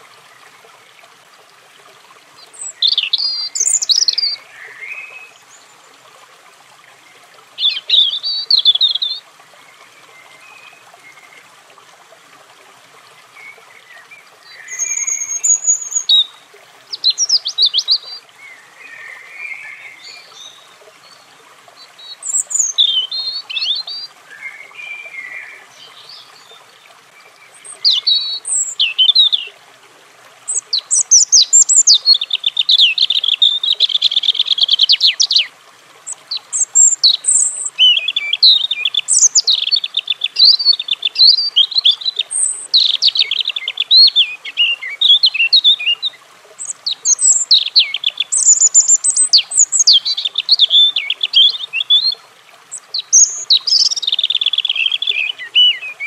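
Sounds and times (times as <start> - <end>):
robin singing: 2.4 - 5.7, 7.6 - 9.2, 13.4 - 21.2, 21.8 - 29.6, 30.5 - 35.5, 36.1 - 56.0.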